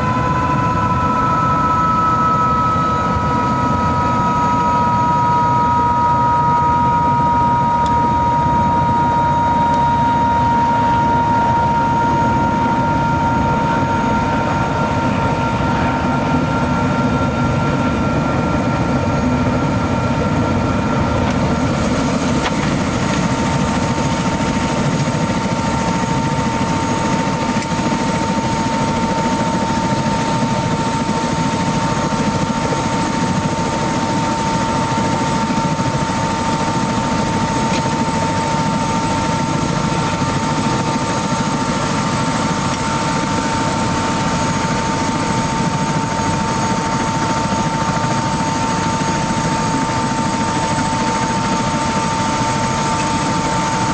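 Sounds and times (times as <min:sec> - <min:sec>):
helicopter engine and rotor running: 0:00.0 - 0:53.9
high turbine whine: 0:00.0 - 0:53.9.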